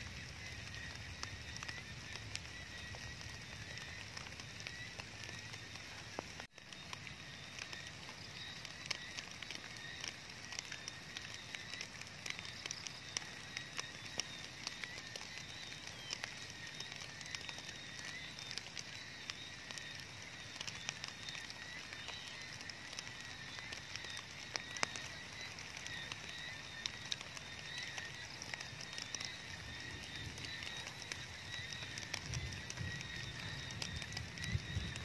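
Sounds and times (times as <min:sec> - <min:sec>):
rain pattering on leaves: 0:00.0 - 0:35.0.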